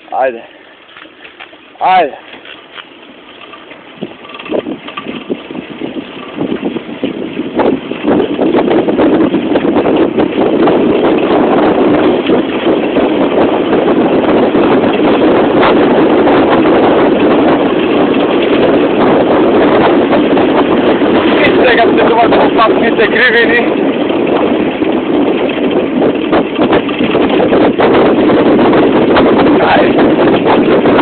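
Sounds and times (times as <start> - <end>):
wind buffeting microphone: 0.0 - 31.0
bicycle knocking on rough road: 0.8 - 31.0.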